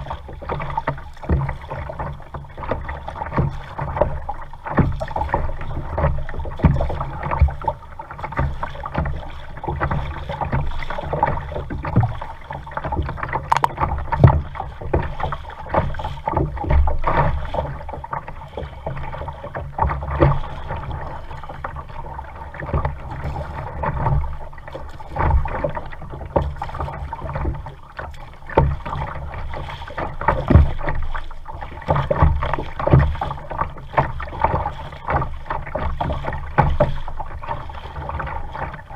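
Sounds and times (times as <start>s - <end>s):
paddle knocking on kayak: 0.0s - 38.9s
water splashing and lapping: 0.0s - 38.9s.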